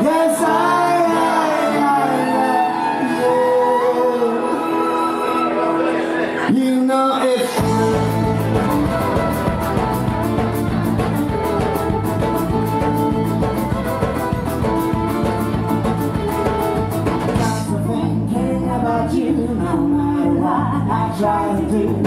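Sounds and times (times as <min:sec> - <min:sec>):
folk-rock band playing: 0:00.0 - 0:20.2.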